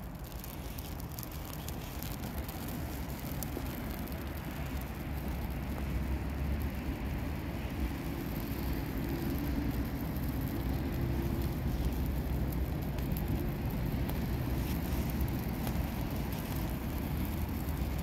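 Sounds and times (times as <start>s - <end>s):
fire crackles: 0.0s - 18.0s
low rumble of flames: 0.0s - 18.0s.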